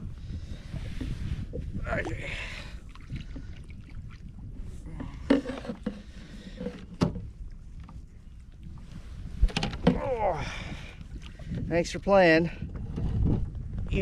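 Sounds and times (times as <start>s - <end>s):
low rumble of wind and water: 0.0s - 14.0s.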